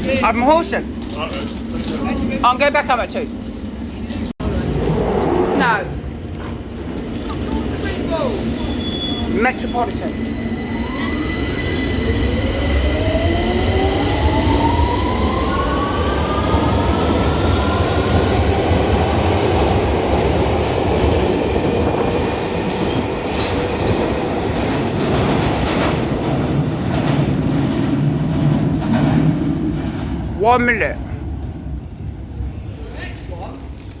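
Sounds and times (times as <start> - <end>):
rumble of train wheels: 0.0 - 34.0.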